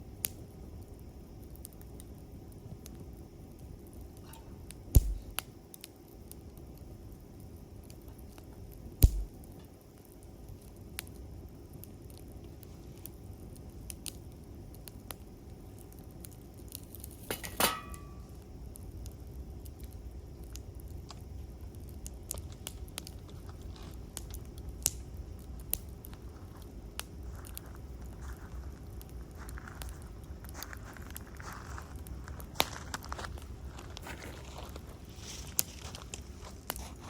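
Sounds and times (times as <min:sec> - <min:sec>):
low steady rumble: 0:00.0 - 0:16.7, 0:17.6 - 0:37.0
campfire crackling and popping: 0:00.1 - 0:37.0.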